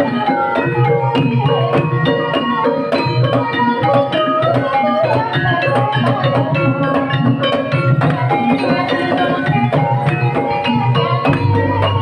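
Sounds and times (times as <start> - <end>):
hand drum rhythm: 0.0 - 12.0.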